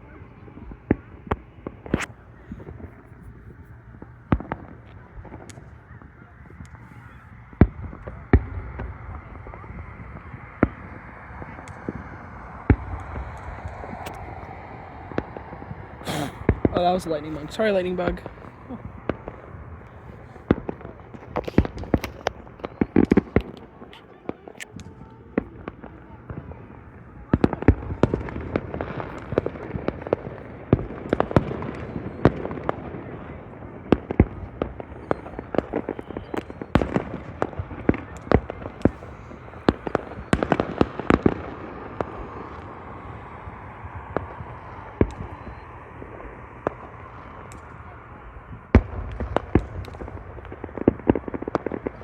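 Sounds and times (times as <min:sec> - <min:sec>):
fireworks bangs: 0:00.0 - 0:52.0.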